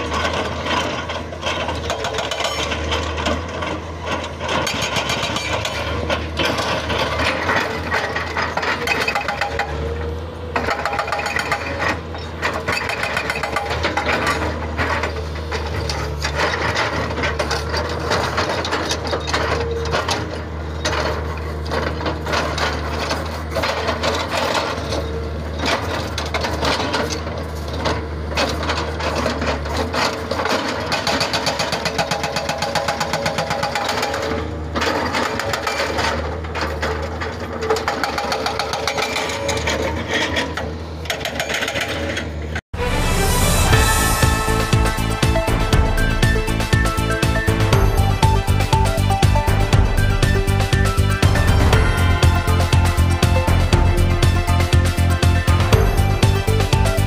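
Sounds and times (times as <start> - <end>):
diesel engine running: 0.0 - 41.4, 42.0 - 57.0
hydraulic breaker pounding rock: 0.0 - 42.6, 44.3 - 57.0.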